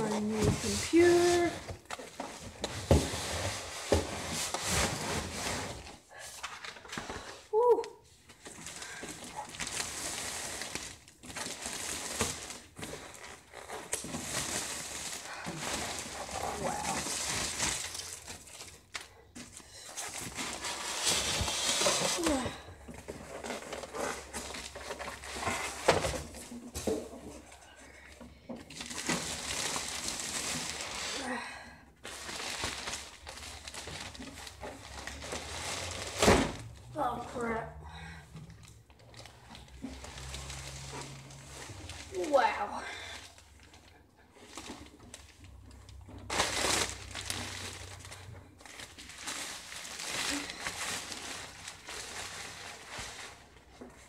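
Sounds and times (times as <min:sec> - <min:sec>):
plastic packaging crinkling: 0:04.6 - 0:26.5, 0:28.7 - 0:31.3, 0:32.0 - 0:37.5, 0:38.5 - 0:54.0.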